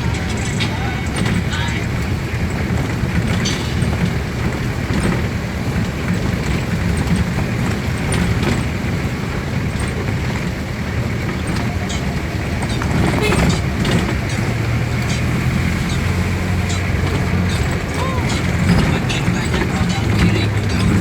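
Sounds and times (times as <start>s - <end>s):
vehicle rumbling in motion: 0.0s - 21.0s.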